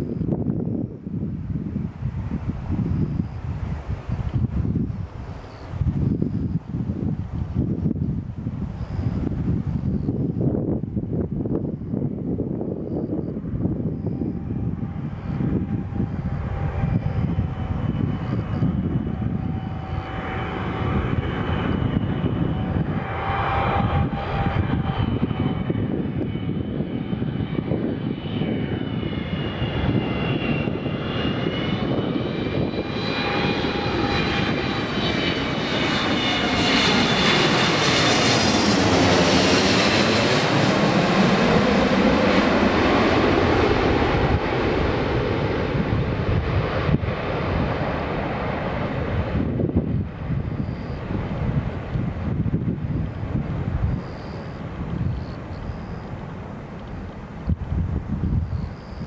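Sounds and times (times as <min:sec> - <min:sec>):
jet engines rumbling and whining: 0:00.0 - 0:59.0.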